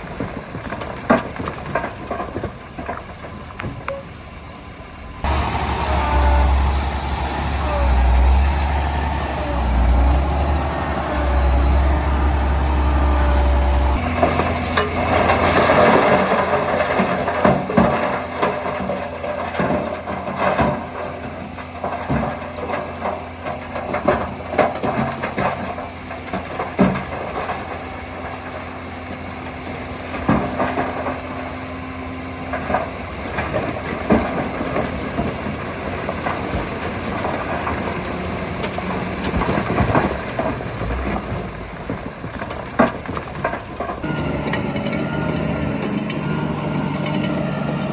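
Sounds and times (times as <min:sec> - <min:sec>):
bulldozer diesel engine: 0:00.0 - 0:47.9
steel tracks clanking: 0:05.2 - 0:28.6, 0:32.4 - 0:47.9.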